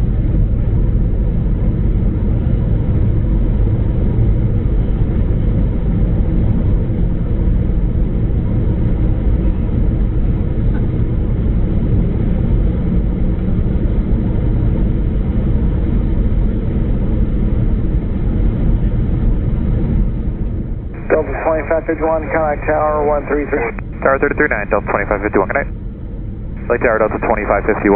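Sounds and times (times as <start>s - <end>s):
airplane cabin engine rumble: 0.0s - 27.9s.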